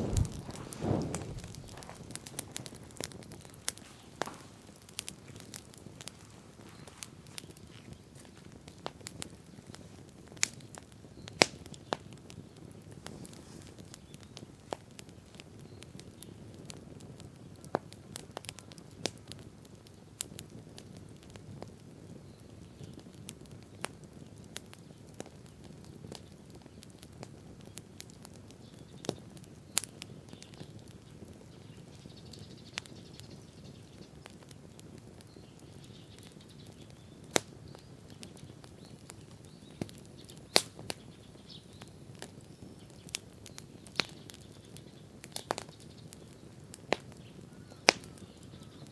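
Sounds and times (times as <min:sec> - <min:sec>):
bonfire crackling: 0:00.0 - 0:48.9.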